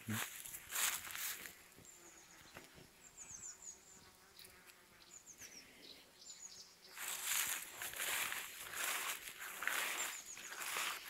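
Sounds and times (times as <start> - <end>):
bees buzzing faintly: 0.0 - 11.0.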